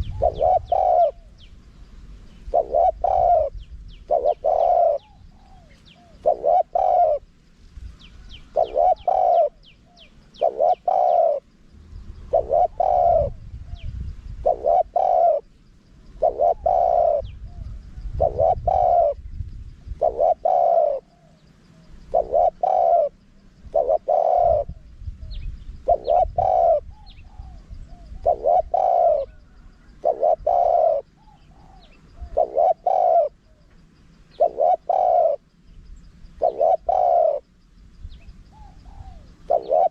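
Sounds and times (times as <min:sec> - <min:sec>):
dove cooing: 0:00.0 - 0:01.5, 0:02.2 - 0:07.4, 0:08.1 - 0:11.6, 0:12.2 - 0:35.5, 0:36.3 - 0:37.5, 0:38.2 - 0:39.9
small birds chirping: 0:00.0 - 0:39.9.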